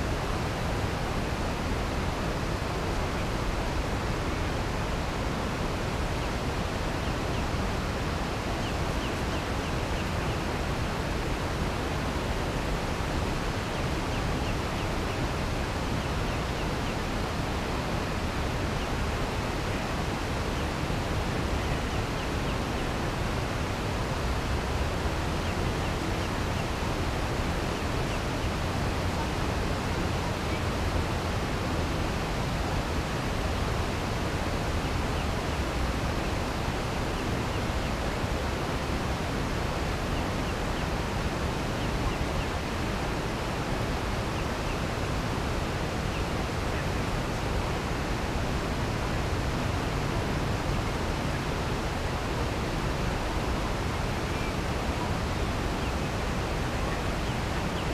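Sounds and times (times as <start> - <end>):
steady rushing nature ambience: 0.0 - 57.9.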